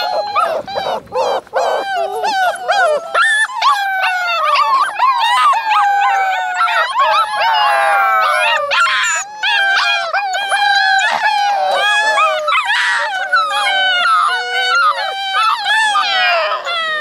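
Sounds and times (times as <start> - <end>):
puppies howling: 0.0 - 17.0.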